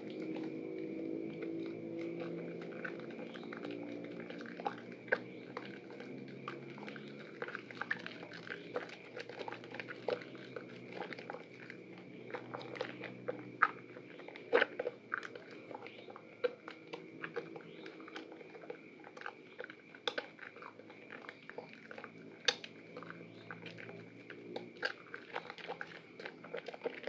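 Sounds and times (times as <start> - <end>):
hands squelching wet soap: 0.0 - 27.0.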